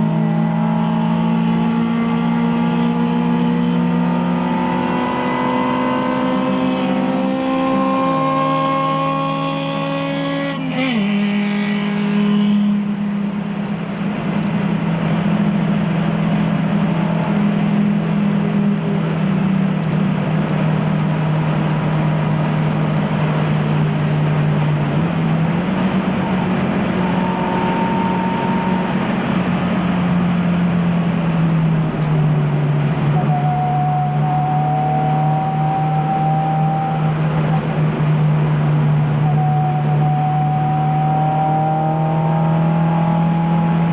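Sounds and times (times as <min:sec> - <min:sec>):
race car engine at high revs: 0:00.0 - 0:43.9
tyre and road noise: 0:00.0 - 0:43.9.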